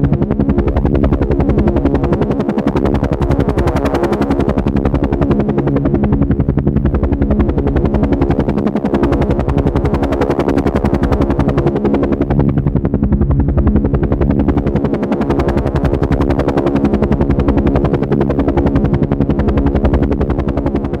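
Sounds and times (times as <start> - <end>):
helicopter engine drone: 0.0 - 21.0
helicopter rotor blades beating: 0.0 - 21.0.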